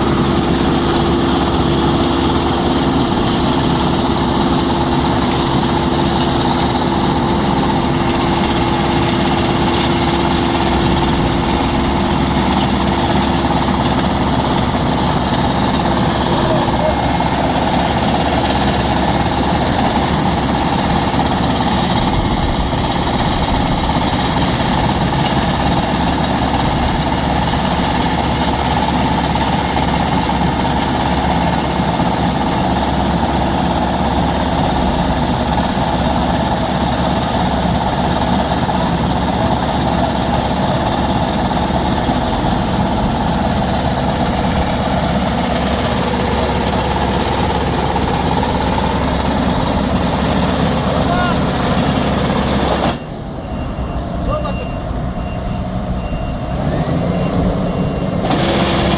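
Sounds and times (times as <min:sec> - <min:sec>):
asphalt paver diesel engine running: 0:00.0 - 0:58.9.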